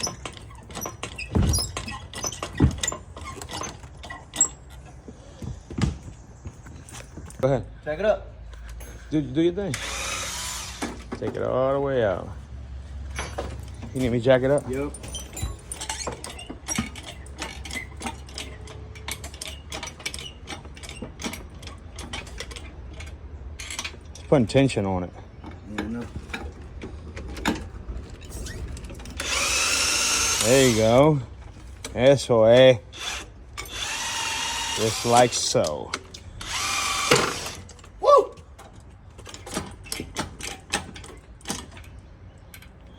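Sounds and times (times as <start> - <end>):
engine hoist clicking and ratcheting: 0.0 - 5.0, 13.0 - 42.9.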